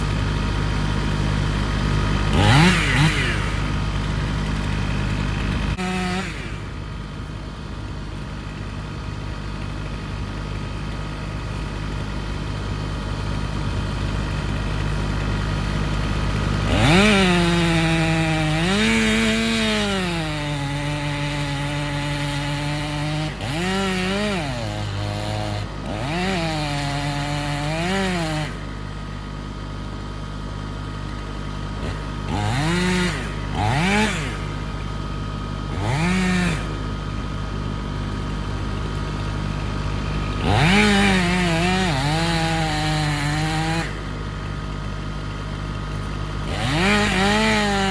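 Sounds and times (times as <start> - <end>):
chainsaw idling and revving: 0.0 - 47.9.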